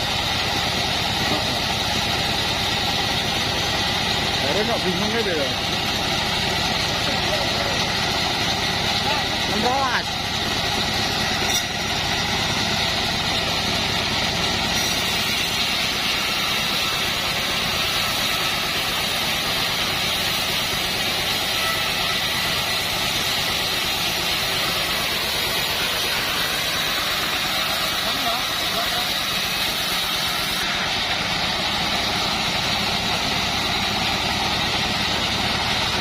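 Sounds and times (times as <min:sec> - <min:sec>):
band sawmill running: 0:00.0 - 0:36.0.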